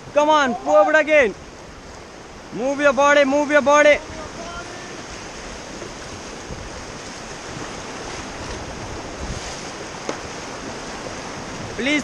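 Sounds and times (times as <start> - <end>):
river water rushing: 0.0 - 12.0
wind noise on microphone: 0.0 - 12.0.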